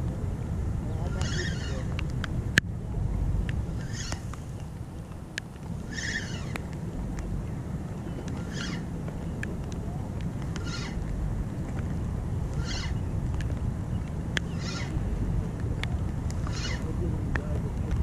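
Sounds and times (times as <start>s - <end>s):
low rumble: 0.0s - 18.0s
rain: 0.0s - 18.0s
raindrops ticking on camera: 0.0s - 18.0s.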